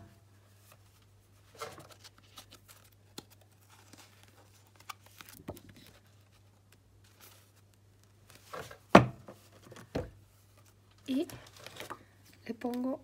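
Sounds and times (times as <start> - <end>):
paper rustling: 0.6 - 12.1.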